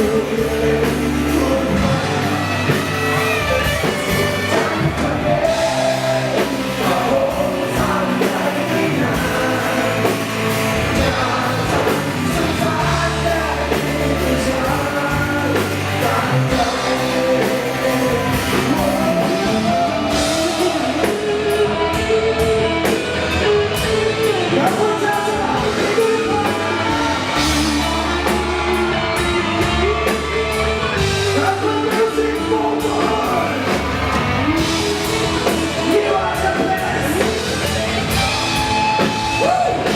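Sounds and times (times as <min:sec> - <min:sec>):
overdriven electric guitar lead: 0:00.0 - 0:39.9
rock backing track with drums: 0:00.0 - 0:39.9.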